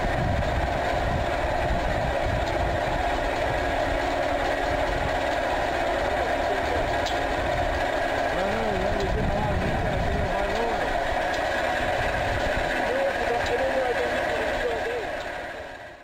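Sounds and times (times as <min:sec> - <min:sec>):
steam engine running: 0:00.0 - 0:16.0.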